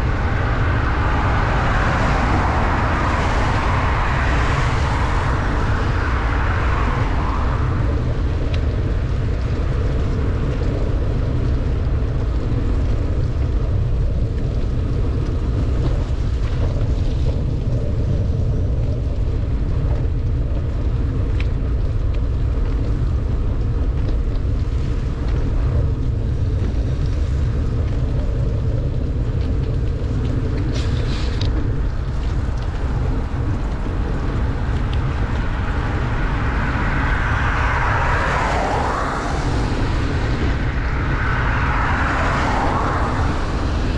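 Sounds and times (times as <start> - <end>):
bicycle tyres on wet road: 0.0 - 43.9
heavy rain: 0.0 - 43.9
wind rumble on microphone: 0.0 - 43.9.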